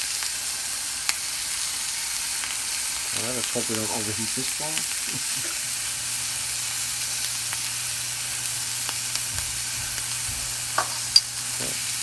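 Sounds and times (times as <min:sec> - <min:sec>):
chicken sizzling on grill pan: 0:00.0 - 0:12.0.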